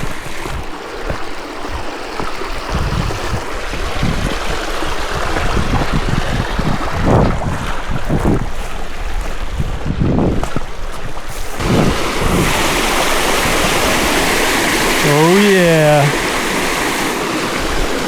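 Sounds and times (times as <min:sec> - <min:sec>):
rushing water: 0:00.0 - 0:18.0
wind buffeting microphone: 0:00.0 - 0:18.0.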